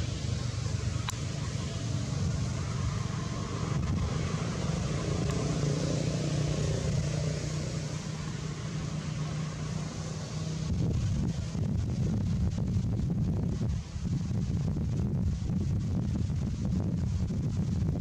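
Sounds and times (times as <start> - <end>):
outdoor background noise: 0.0 - 18.0
vehicle engine humming: 0.0 - 18.0.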